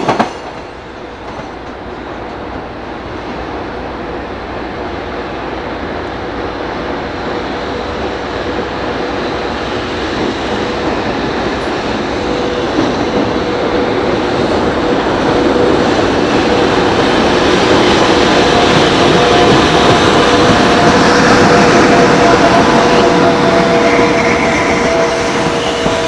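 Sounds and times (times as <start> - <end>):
train approaching: 0.0 - 26.0.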